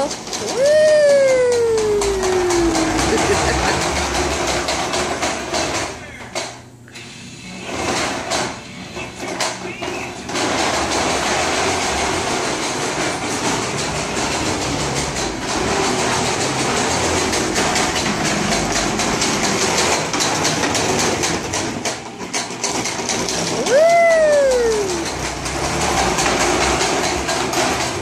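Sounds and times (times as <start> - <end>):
lawn mower engine running: 0.0 - 6.2, 9.4 - 28.0
clattering rattle: 0.0 - 6.6, 9.2 - 28.0.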